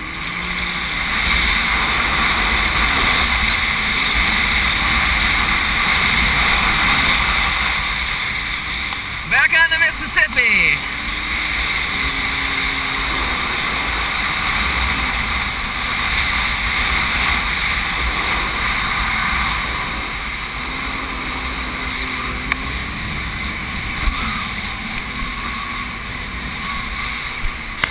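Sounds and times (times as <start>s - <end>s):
jet ski engine drone: 0.0s - 27.9s.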